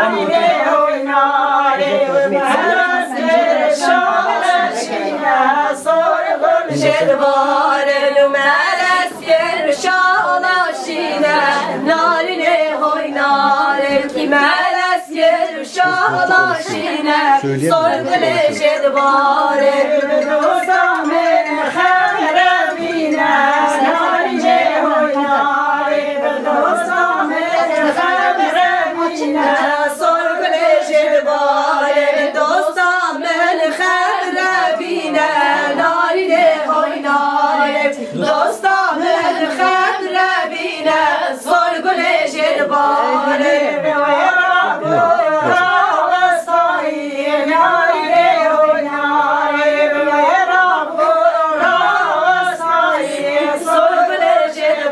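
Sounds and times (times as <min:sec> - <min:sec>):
women singing in unison: 0:00.0 - 0:54.9.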